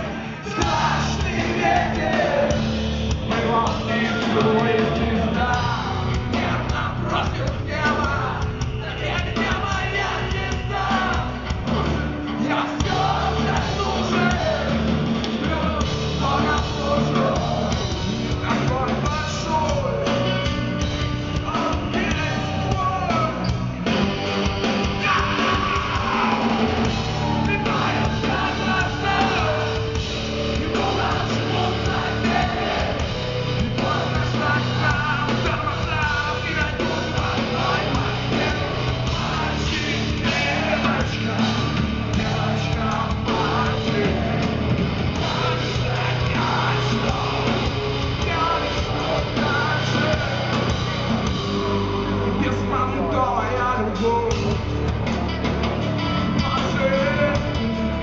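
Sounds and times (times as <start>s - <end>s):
drums: 0.0s - 58.0s
electric guitars: 0.0s - 58.0s.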